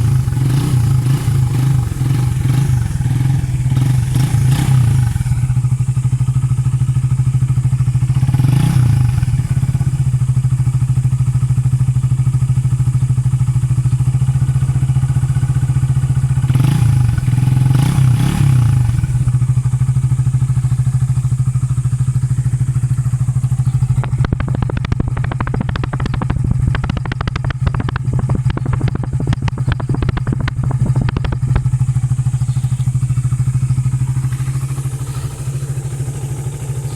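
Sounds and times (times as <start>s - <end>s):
exhaust ticks and crackles: 0.0s - 36.9s
motorcycle engine idling: 0.0s - 36.9s
motorcycle throttle blips: 0.0s - 36.9s.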